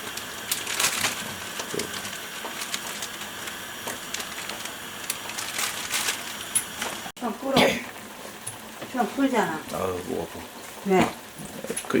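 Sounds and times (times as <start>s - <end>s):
tea boiling with bubbling hiss: 0.0s - 12.0s.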